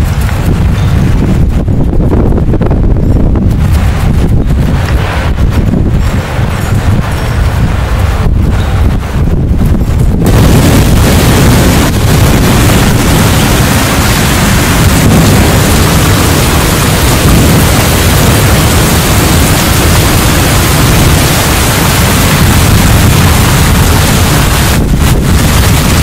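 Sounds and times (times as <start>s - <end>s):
rain: 0.0s - 26.0s
strong wind: 0.0s - 26.0s
wind buffeting microphone: 0.0s - 26.0s.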